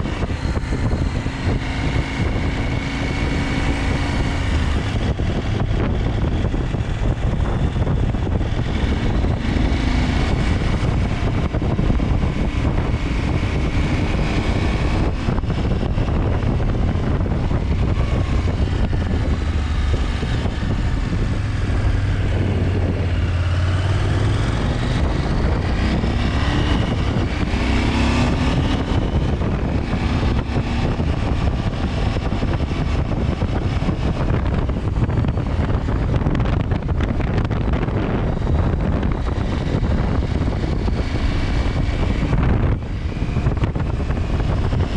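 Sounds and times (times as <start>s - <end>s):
motorcycle engine under way: 0.0s - 44.9s
wind rushing over microphone: 0.0s - 44.9s.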